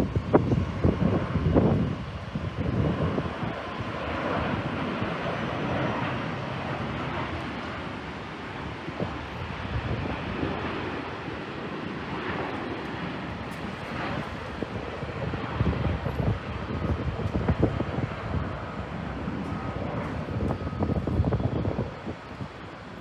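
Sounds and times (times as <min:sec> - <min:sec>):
steady outdoor rumble: 0:00.0 - 0:23.0
wind buffeting the microphone: 0:00.0 - 0:23.0.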